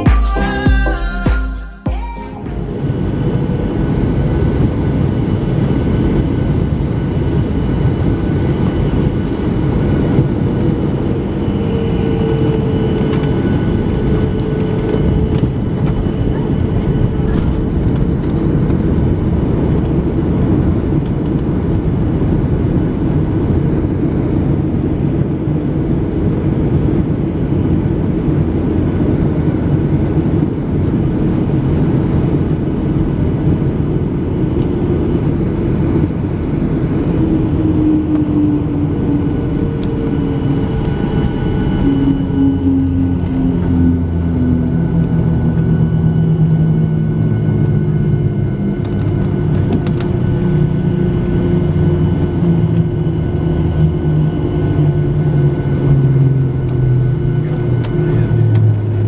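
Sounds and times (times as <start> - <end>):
airplane cabin engine roar: 0.0 - 59.0
engine whine falling in pitch: 0.0 - 59.0.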